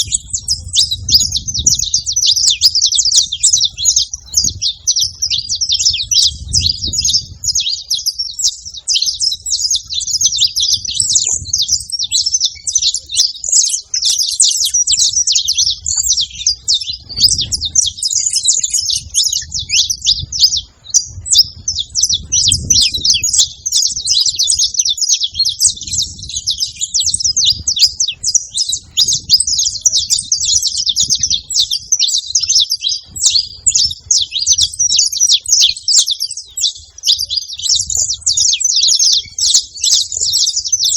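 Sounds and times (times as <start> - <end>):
finches chirping and trilling: 0.0 - 40.9.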